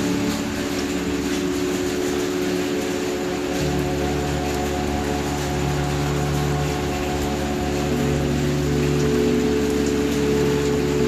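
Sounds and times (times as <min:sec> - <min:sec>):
low droning tones: 0:00.0 - 0:11.0
rain hiss: 0:00.0 - 0:11.0.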